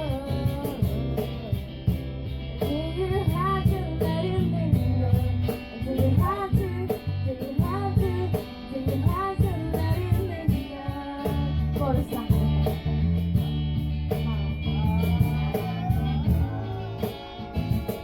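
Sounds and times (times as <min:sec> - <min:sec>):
person singing: 0:00.0 - 0:01.7, 0:02.6 - 0:12.9, 0:14.2 - 0:18.0
low bass notes: 0:00.0 - 0:10.5, 0:11.3 - 0:18.0
steady beat: 0:00.0 - 0:18.0
strummed guitar: 0:00.0 - 0:18.0.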